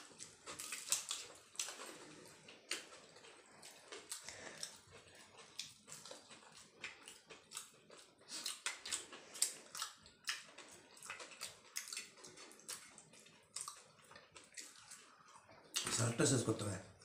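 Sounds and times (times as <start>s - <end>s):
people chewing and munching: 0.0s - 17.0s.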